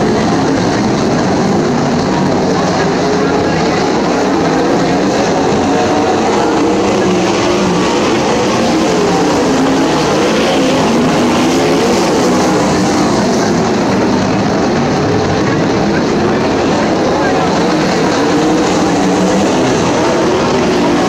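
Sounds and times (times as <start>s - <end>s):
race car engines racing past: 0.0s - 21.0s.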